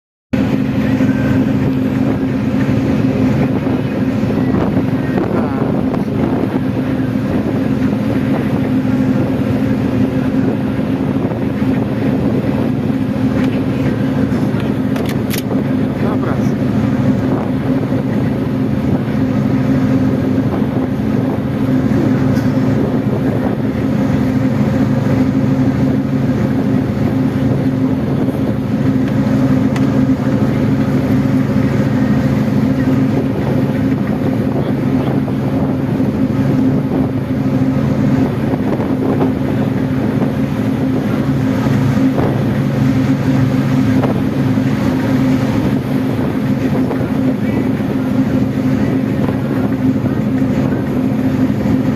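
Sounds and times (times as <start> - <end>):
boat engine humming: 0.3 - 51.9.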